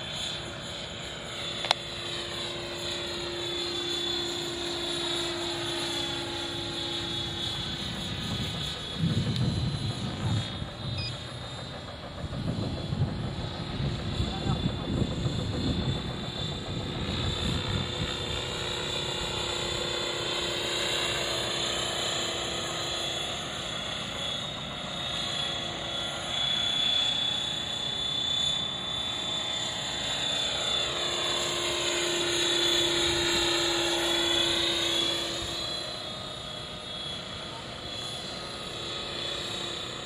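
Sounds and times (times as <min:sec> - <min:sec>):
model helicopter motor and rotors: 0:00.0 - 0:40.0.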